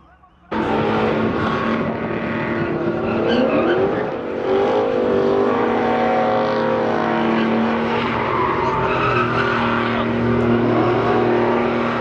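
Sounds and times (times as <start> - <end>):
truck engine revving high: 0.4 - 12.0
tires squealing on pavement: 0.5 - 12.0.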